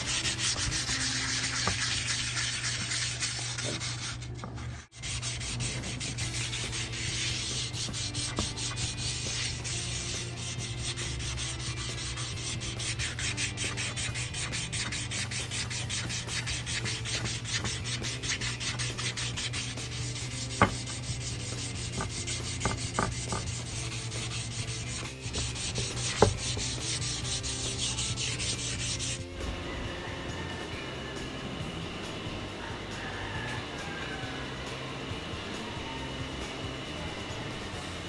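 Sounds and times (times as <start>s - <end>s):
sandpaper rubbing on metal: 0.0s - 30.7s.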